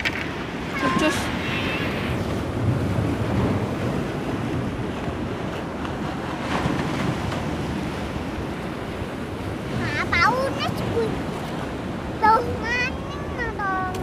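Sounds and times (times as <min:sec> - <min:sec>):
surf washing against rocks: 0:00.0 - 0:14.0
wind buffeting microphone: 0:00.0 - 0:14.0.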